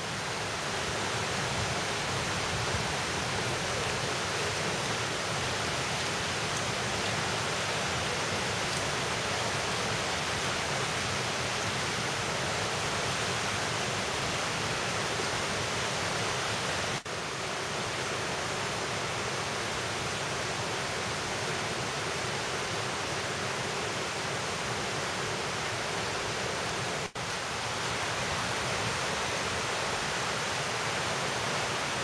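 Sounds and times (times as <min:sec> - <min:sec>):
stream and waterfall rushing: 0:00.0 - 0:32.0.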